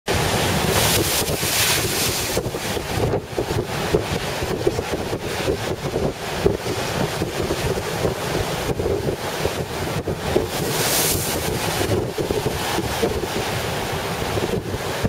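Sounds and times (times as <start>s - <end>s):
heavy ocean surf: 0.1s - 15.0s
storm wind buffeting microphone: 0.1s - 15.0s.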